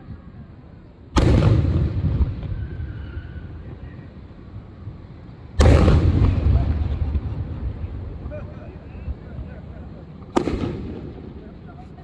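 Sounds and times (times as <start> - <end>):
fireworks bursting with echoing rumble: 1.1 - 12.0.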